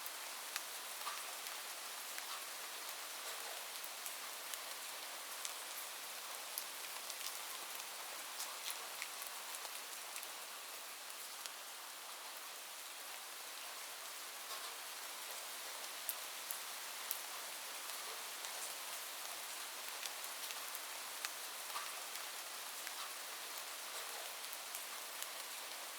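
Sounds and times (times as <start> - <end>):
light rain hiss: 0.0 - 25.9.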